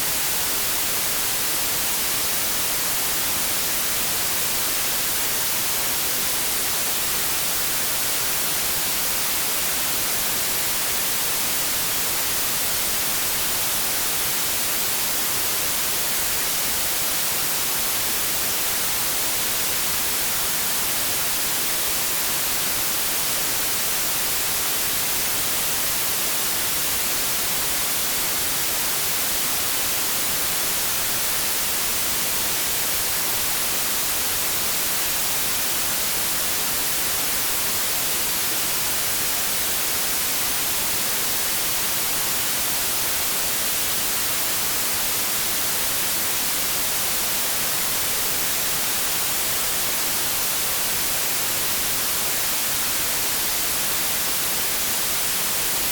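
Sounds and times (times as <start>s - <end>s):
white noise static hiss: 0.0s - 55.9s.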